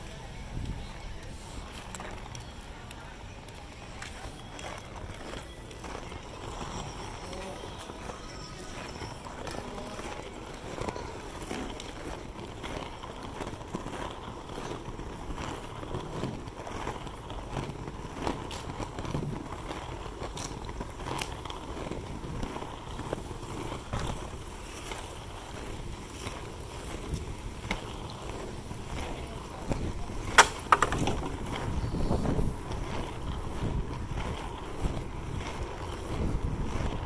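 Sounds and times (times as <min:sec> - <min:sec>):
skate wheels rolling over paving: 0:00.0 - 0:37.0.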